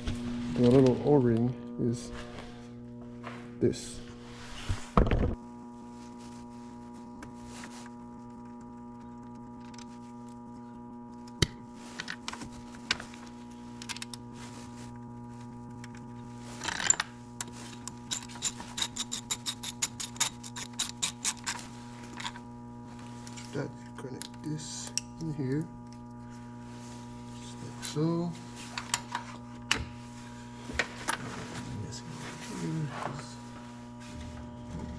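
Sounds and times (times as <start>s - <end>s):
electrical hum: 0.0s - 34.9s.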